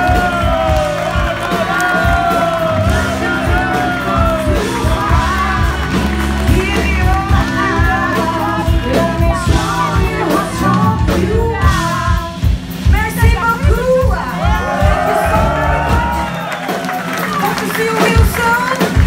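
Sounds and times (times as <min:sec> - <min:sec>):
woman singing: 0:00.0 - 0:15.9, 0:17.2 - 0:19.0
blues rock band playing: 0:00.0 - 0:19.0.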